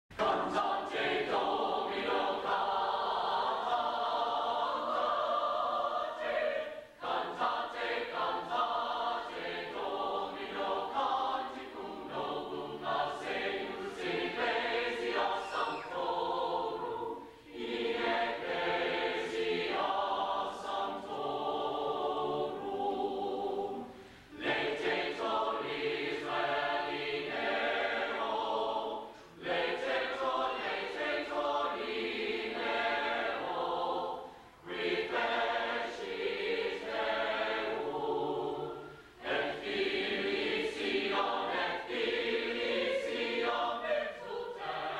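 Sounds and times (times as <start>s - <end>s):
mixed choir singing: 0.1s - 44.9s.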